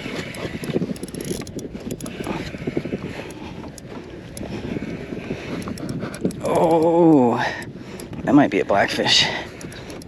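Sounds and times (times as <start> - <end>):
water moving around kayak: 0.0 - 10.0
wind buffeting microphone: 0.0 - 10.0.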